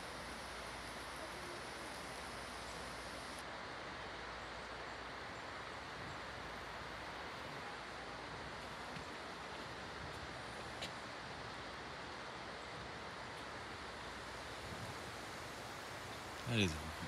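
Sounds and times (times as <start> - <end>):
wind roaring through leaves: 0.0 - 17.0.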